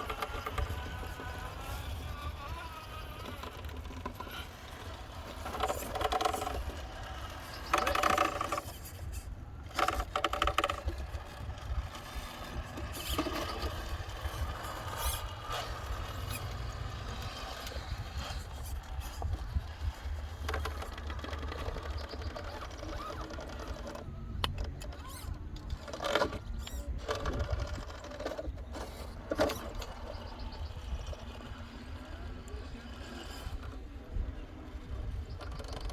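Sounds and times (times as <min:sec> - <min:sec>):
constant low rumble: 0:00.0 - 0:35.9
toy truck motor whining: 0:00.0 - 0:35.9.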